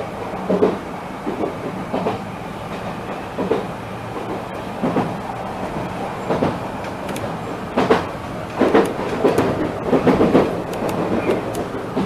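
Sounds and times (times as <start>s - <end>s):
electric train rumble: 0.0s - 12.0s
wheel clack over rail joints: 0.5s - 12.0s.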